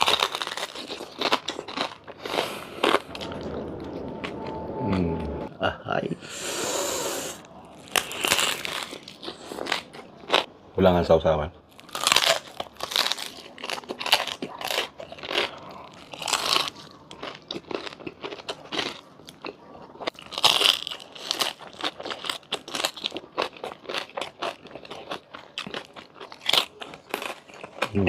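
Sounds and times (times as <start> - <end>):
crunching and chewing crisp food: 0.0 - 5.3, 7.3 - 10.6, 11.6 - 28.0.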